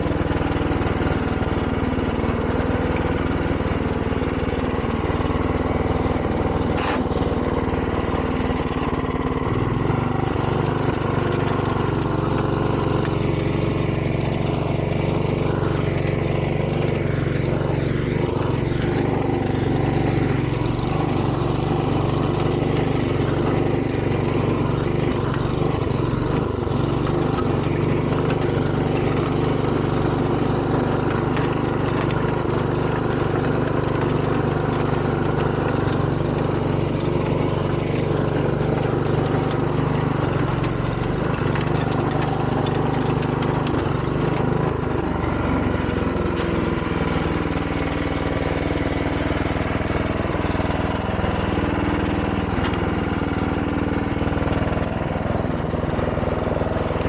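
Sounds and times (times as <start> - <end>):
rotary tiller working soil: 0.0 - 57.0
tractor engine running: 0.0 - 57.0.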